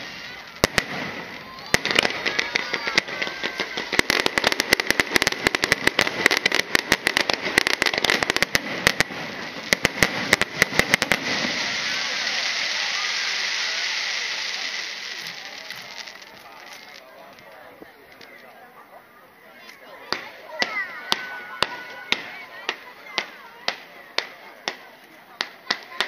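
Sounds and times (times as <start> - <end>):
fireworks hiss: 0.0 - 18.5, 19.6 - 26.0
fireworks bangs: 0.0 - 18.6, 19.5 - 26.0.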